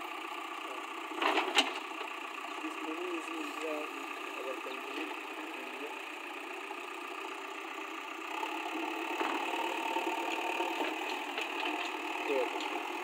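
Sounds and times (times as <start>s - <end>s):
backhoe digging: 0.0s - 13.0s
diesel engine running: 0.0s - 13.0s.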